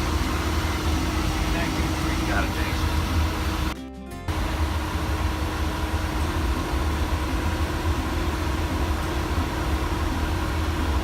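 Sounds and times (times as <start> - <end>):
jet engine and airflow rumble: 0.0 - 11.0
steady hum: 0.0 - 11.0.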